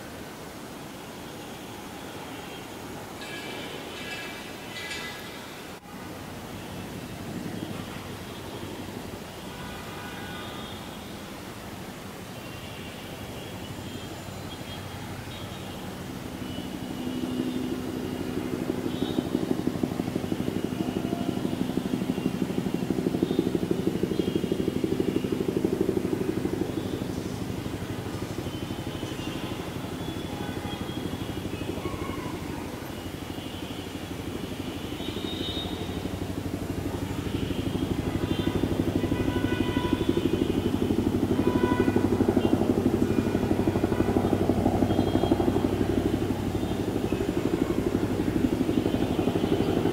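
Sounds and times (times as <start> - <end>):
helicopter rotor beat and engine: 0.2 - 9.6, 13.1 - 49.9.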